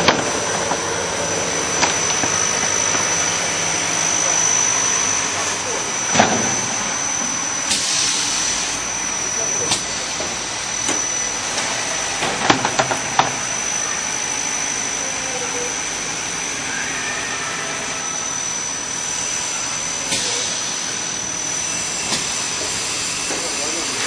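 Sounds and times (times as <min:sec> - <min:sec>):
paper core machine whirring: 0:00.0 - 0:24.0.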